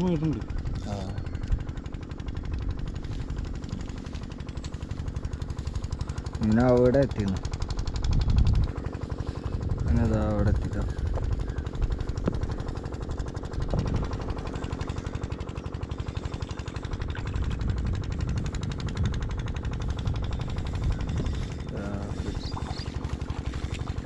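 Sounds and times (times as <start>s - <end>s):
wind rumbling on microphone: 0.4s - 24.0s
fishing reel clicking rattle: 0.5s - 24.0s.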